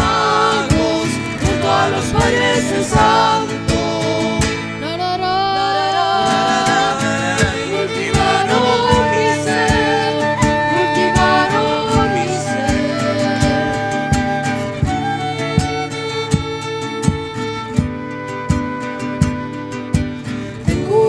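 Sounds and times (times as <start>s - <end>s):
strummed guitar: 0.0s - 21.0s.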